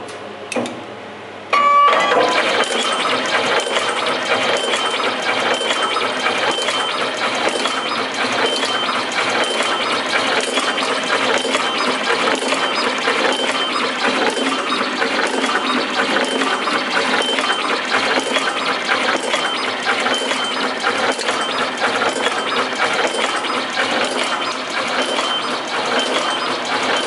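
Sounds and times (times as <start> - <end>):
high machine whine: 1.5 - 27.0
machine clicking and clattering: 1.9 - 27.0.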